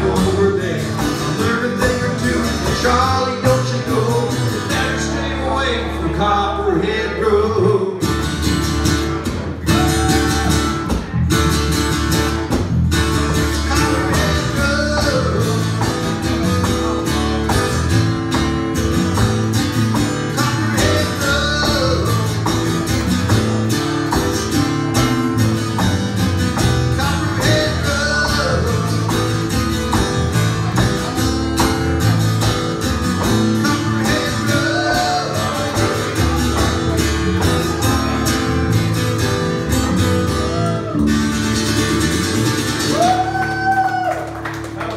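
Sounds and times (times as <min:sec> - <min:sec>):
live band with strummed guitar: 0:00.0 - 0:44.9.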